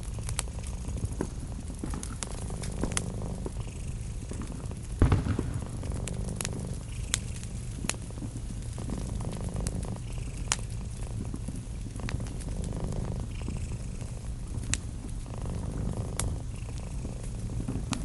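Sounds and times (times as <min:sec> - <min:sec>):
cat purring: 0:00.0 - 0:18.0
wood fire crackling and popping: 0:00.0 - 0:18.0.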